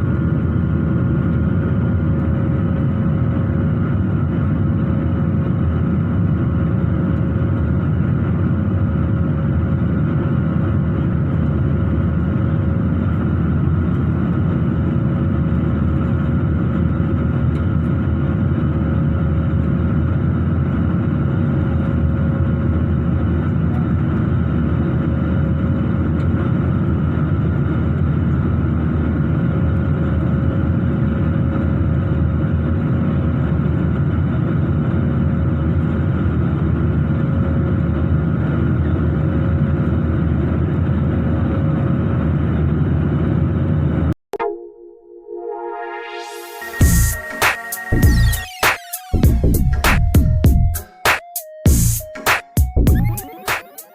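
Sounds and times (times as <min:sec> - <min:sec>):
airliner engine drone in cabin: 0:00.0 - 0:53.9.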